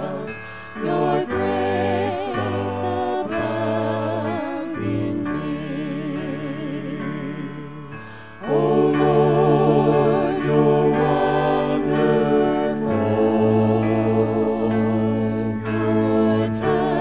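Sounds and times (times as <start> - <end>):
group singing a hymn: 0.0 - 17.0.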